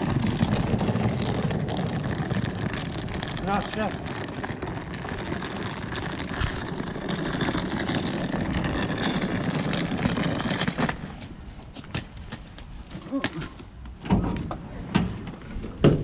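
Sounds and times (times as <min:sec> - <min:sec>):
suitcase wheels rolling on concrete: 0:00.0 - 0:16.0.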